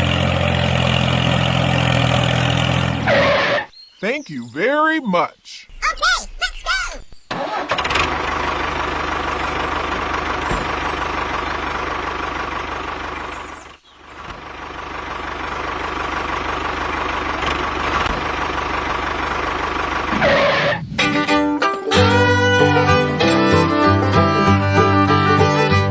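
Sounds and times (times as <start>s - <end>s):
tractor engine running: 0.0s - 3.7s, 5.7s - 25.9s.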